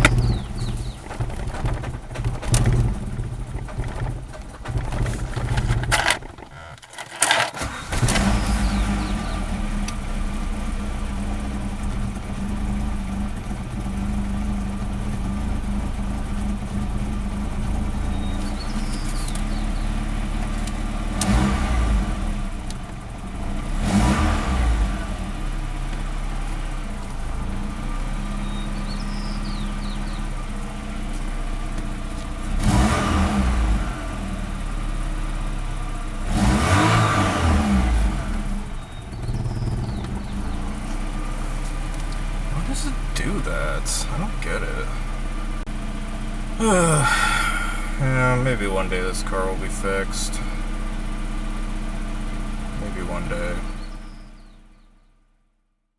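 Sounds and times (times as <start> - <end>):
engine revving: 0.0 - 54.9
car engine starting and idling: 0.0 - 55.7.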